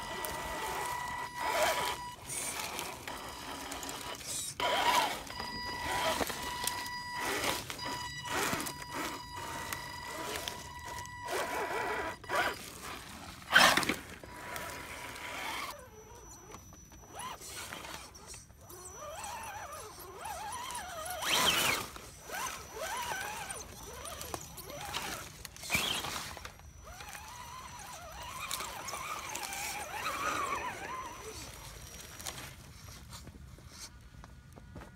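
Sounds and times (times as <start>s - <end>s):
electric motors whining: 0.0s - 33.1s
tyres scraping on rocks: 0.0s - 33.4s.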